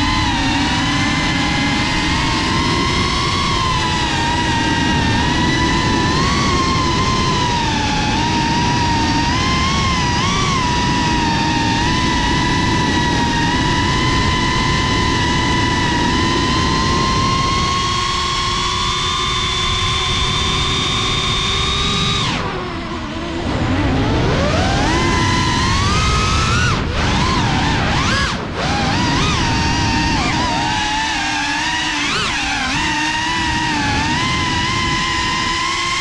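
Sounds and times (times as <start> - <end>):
drone motors whining: 0.0 - 36.0
wind and prop-wash noise: 0.0 - 36.0.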